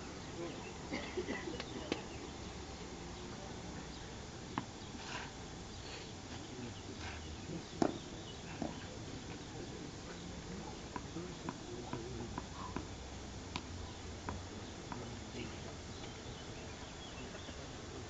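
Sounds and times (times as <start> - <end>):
faint background murmur: 0.0 - 18.0.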